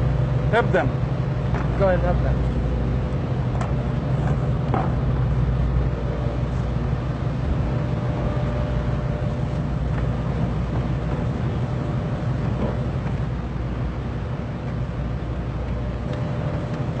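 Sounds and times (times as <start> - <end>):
ship machinery rumble: 0.0 - 17.0.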